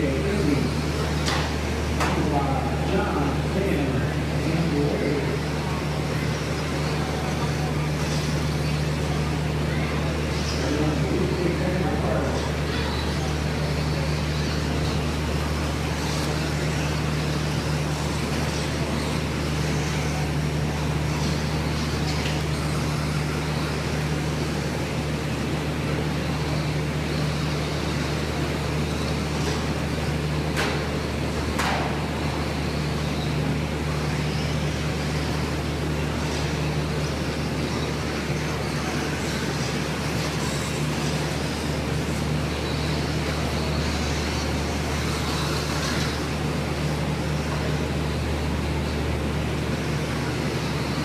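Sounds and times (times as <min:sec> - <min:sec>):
steady indoor hum: 0:00.0 - 0:51.0.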